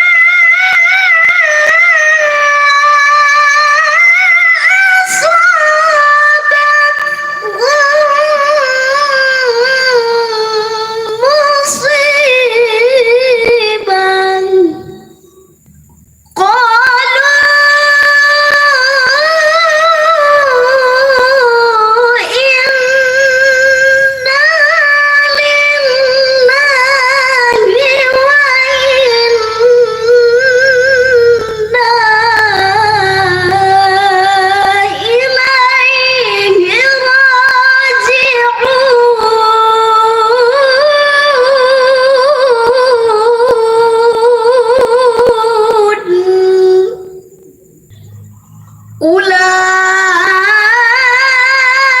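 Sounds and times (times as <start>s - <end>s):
woman reciting melodically: 0.0s - 52.0s.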